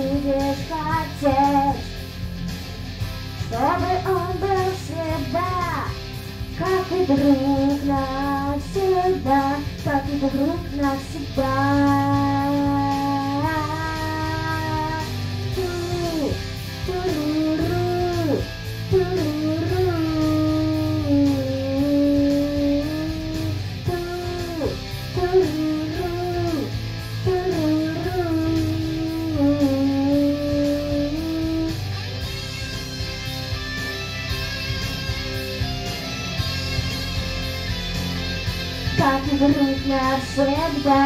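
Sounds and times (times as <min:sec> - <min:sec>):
lead guitar slow melody: 0:00.0 - 0:41.0
low accompaniment: 0:00.0 - 0:41.0.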